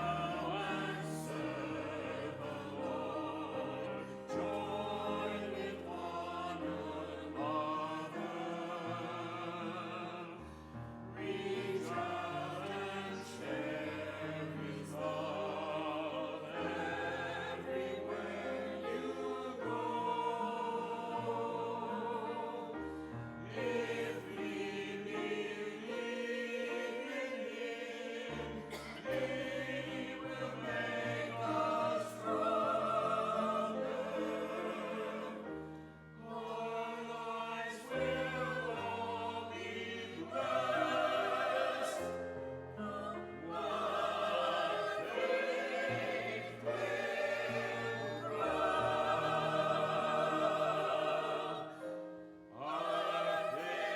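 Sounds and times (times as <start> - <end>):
choir singing sustained notes: 0.0 - 53.9.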